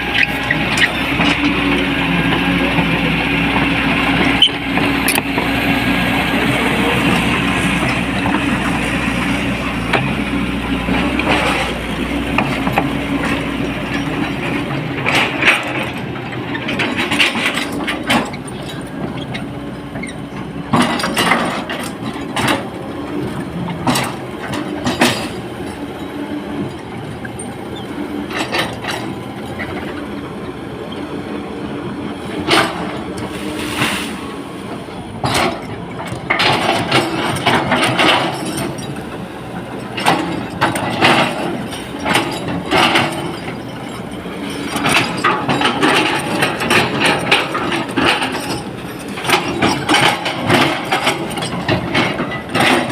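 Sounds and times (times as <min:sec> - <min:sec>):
excavator knocks and clatters: 0:00.0 - 0:31.3, 0:32.1 - 0:52.9
diesel engine running: 0:00.0 - 0:52.9.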